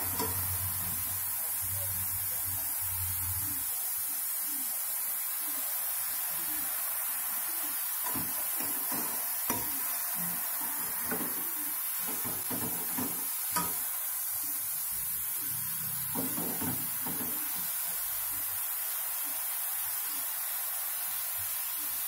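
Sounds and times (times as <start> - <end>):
frying hiss: 0.0 - 22.0.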